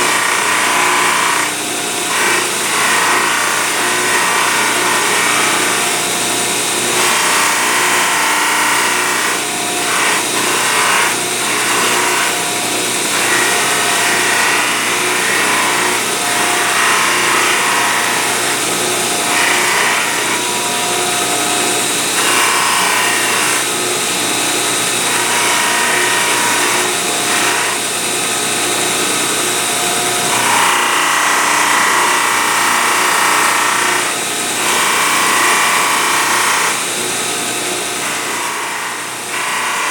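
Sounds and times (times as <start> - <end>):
grinder grinding steel: 0.0 - 39.9.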